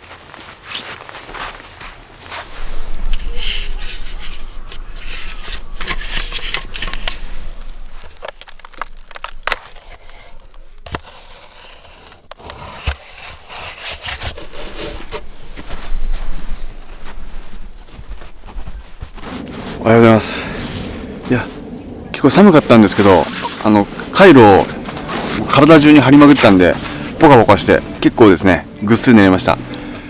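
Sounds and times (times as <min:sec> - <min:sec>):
rubbing and scraping handling: 0:00.0 - 0:29.6.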